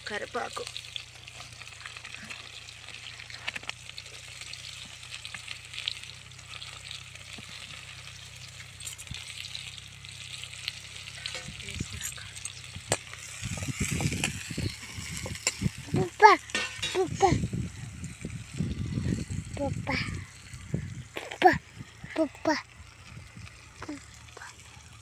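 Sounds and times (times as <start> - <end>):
onion frying in hot oil: 0.0 - 25.0.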